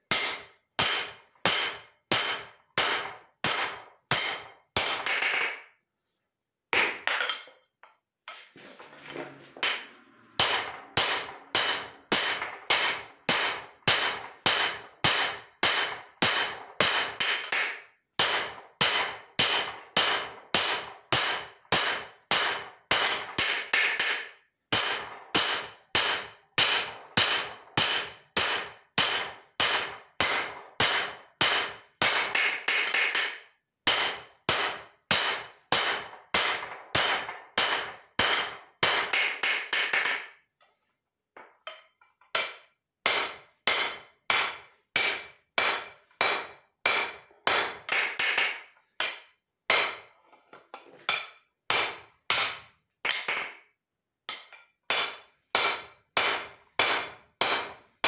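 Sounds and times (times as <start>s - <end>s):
hammer striking steel on anvil: 0.1s - 5.7s, 9.6s - 40.4s, 42.4s - 50.1s, 51.1s - 53.6s, 54.3s - 57.8s.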